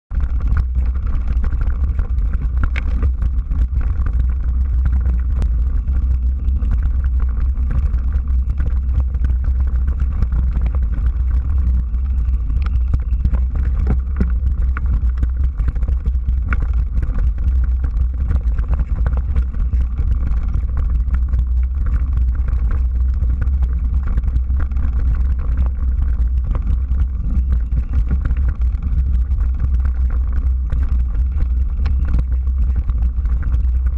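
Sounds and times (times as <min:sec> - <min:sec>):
bike rattling and clicking: 0:00.1 - 0:33.9
wind buffeting microphone: 0:00.1 - 0:33.9.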